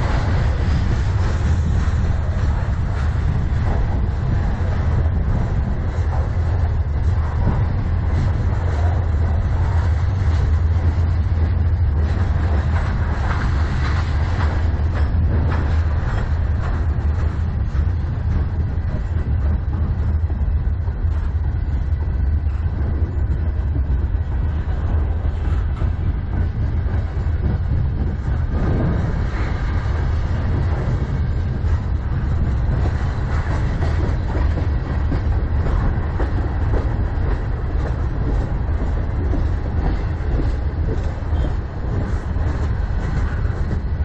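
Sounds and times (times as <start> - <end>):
freight train rolling past: 0.0 - 44.0
sharp clicks and clacks: 0.0 - 44.0.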